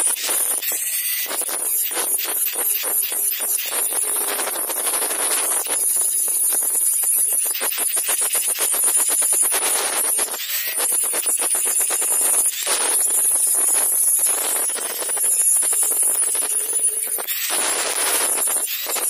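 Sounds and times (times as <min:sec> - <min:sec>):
angle grinder cutting metal: 0:00.0 - 0:19.0.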